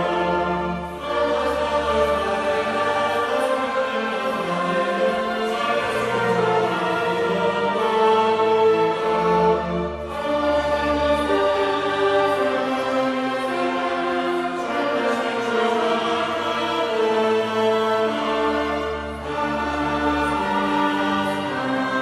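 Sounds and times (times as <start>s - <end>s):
mixed choir singing: 0.0s - 22.0s
string orchestra: 0.0s - 22.0s.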